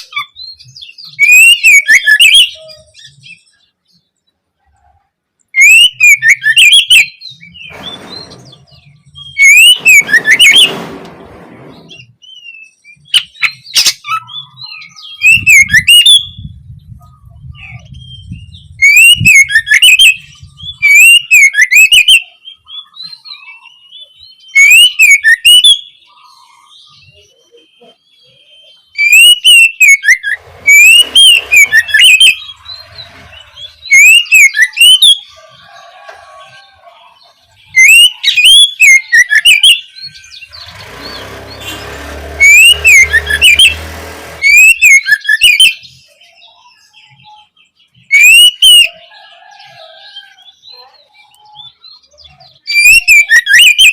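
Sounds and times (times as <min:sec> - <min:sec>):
bird singing whistles and chatter: 0:00.0 - 0:04.1, 0:05.5 - 0:11.0, 0:11.6 - 0:53.9.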